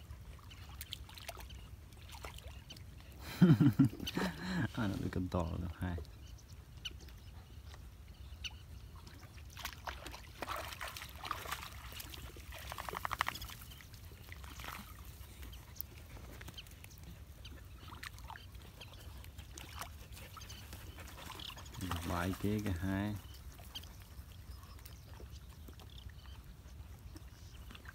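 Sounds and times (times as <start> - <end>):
dogs splashing through puddle: 0.0 - 6.0, 8.9 - 27.9.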